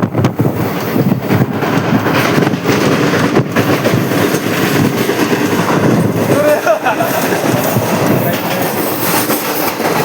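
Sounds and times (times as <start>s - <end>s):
train wheels rumbling and clattering: 0.0s - 10.0s.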